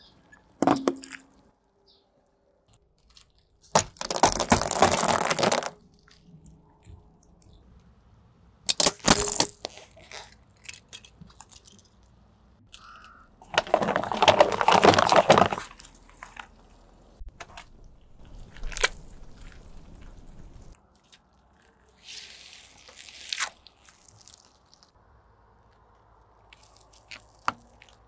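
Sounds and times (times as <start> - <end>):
car tyre crushing brittle objects: 2.7 - 6.9, 8.6 - 28.0.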